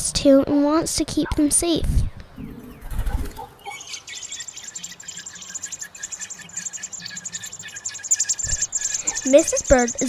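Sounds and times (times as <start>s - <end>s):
birds chirping: 0.2s - 10.0s.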